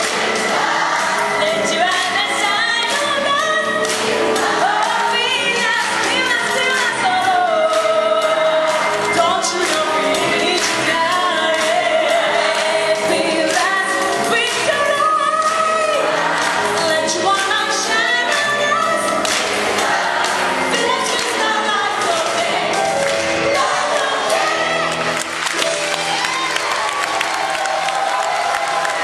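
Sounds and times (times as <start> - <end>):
gospel choir singing: 0.0 - 25.5.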